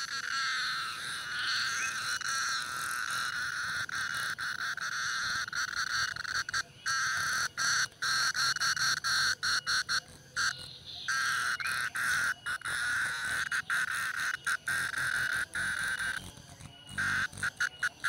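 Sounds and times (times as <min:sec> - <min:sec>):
insect buzzing: 0:00.0 - 0:18.0.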